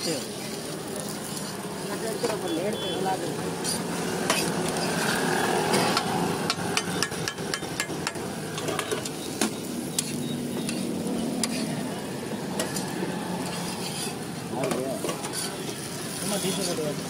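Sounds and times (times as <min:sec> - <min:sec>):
metal spatula scraping and tapping griddle: 0:01.0 - 0:02.5, 0:03.6 - 0:05.1, 0:05.7 - 0:11.9, 0:12.5 - 0:16.8.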